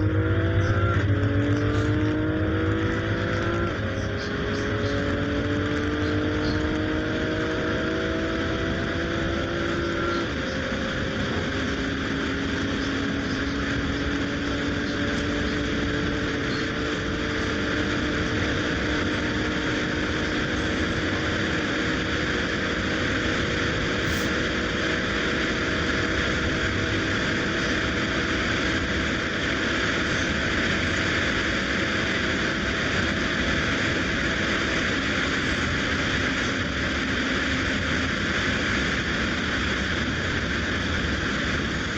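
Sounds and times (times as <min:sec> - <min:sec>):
car engine accelerating: 0:00.0 - 0:41.9
wind and tyre noise: 0:00.0 - 0:41.9.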